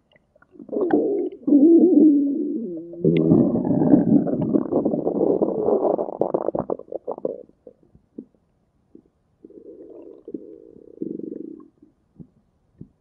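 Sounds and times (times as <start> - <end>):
stomach growling: 0.4 - 8.4, 9.0 - 12.3.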